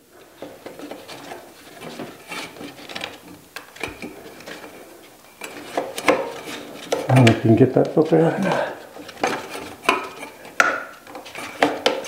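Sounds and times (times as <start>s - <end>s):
plastic filter scraping and clicking: 0.2s - 12.0s.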